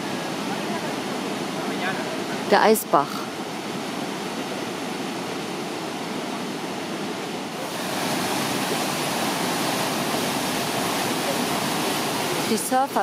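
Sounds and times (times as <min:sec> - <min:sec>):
churning whitewater rushing: 0:00.0 - 0:13.0
stream rushing over weir: 0:00.0 - 0:13.0.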